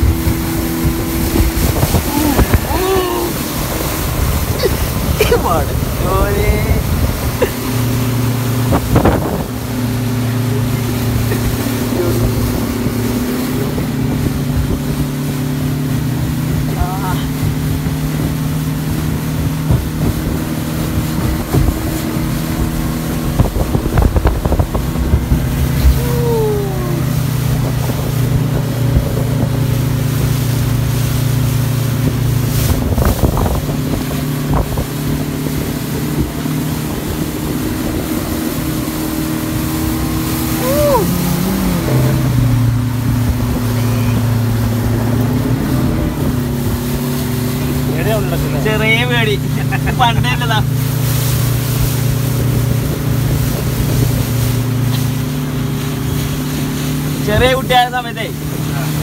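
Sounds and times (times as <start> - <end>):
speedboat engine running: 0.0 - 59.0.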